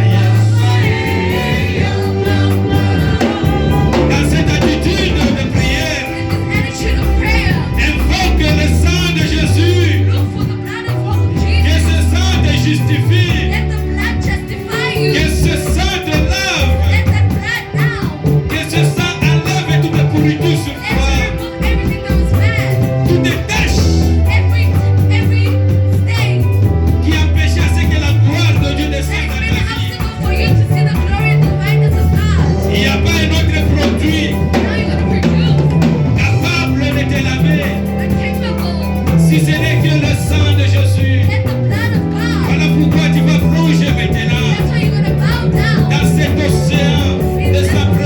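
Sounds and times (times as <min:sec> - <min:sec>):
bass guitar: 0:00.0 - 0:48.0
drum kit beat: 0:00.0 - 0:48.0
people singing: 0:00.0 - 0:48.0
wavering melodic line: 0:00.0 - 0:48.0
worship band music: 0:00.0 - 0:48.0.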